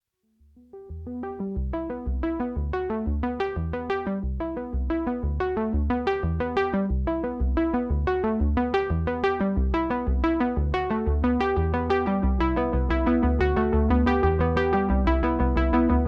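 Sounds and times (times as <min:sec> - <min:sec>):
synthesizer melody: 0:00.7 - 0:16.0
steady bass pulse: 0:00.9 - 0:16.0.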